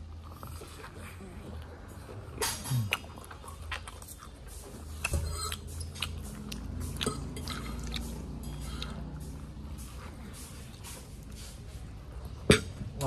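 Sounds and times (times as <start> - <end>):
crunchy chewing: 0.0 - 13.0
low room hum: 0.0 - 13.0.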